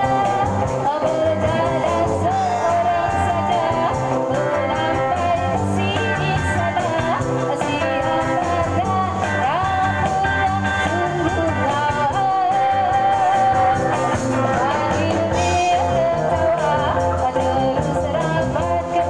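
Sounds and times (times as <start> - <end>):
band playing: 0.0 - 19.0
person singing: 0.0 - 19.0.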